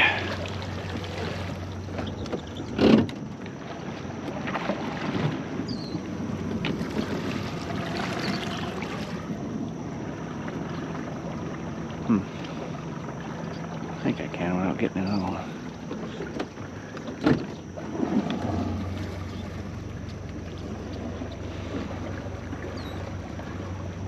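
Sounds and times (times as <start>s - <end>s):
boat motor running: 0.0s - 24.0s.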